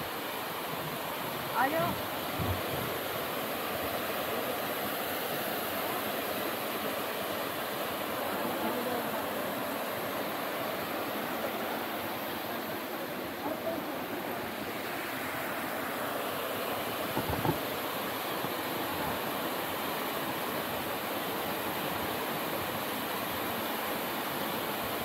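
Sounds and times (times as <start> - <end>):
waterfall roaring: 0.1 - 25.0.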